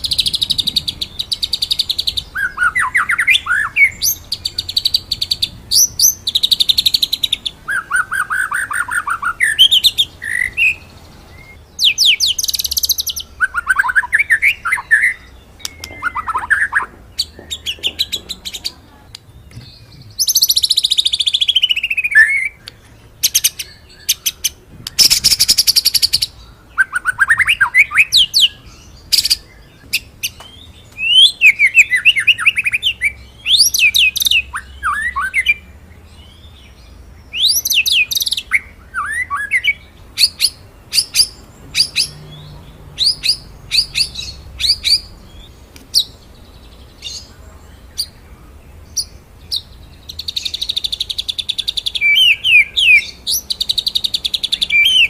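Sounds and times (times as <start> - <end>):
songbird singing varied song: 0.0 - 55.0.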